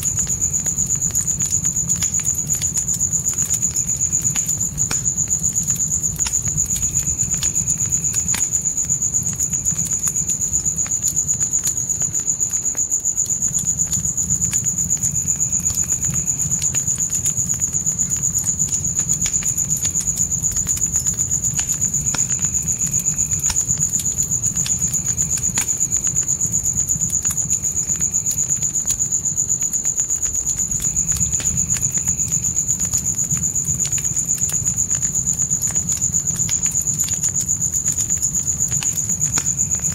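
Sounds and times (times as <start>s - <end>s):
crickets chirping: 0.0s - 39.9s
fire crackling and popping: 0.0s - 39.9s
low insect call: 0.0s - 39.9s.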